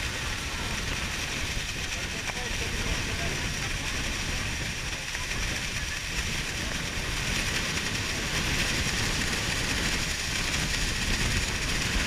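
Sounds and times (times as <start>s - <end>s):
falling water roar: 0.0s - 12.0s
wind buffeting microphone: 0.0s - 12.0s.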